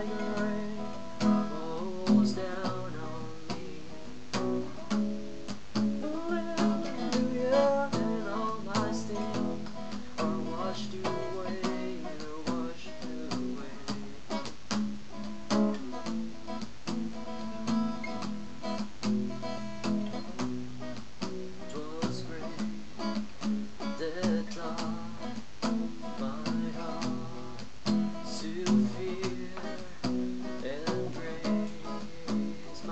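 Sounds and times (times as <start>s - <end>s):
acoustic guitar strumming: 0.0s - 32.9s
microphone static: 0.0s - 32.9s.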